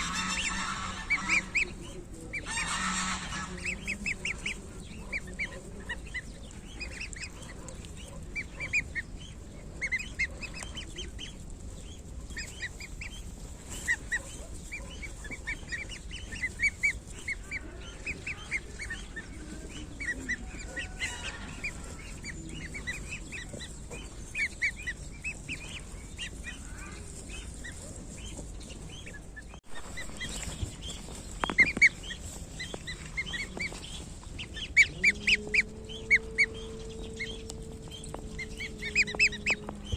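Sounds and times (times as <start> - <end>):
goslings peeping: 0.0 - 39.9.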